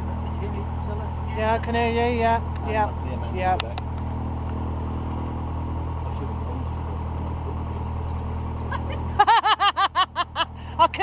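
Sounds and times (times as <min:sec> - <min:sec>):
propeller engine idling: 0:00.0 - 0:11.0.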